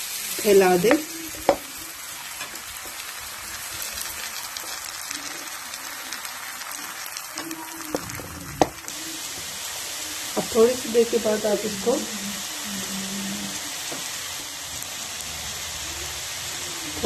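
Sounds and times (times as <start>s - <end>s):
batter sizzling in frying pan: 0.0s - 17.0s.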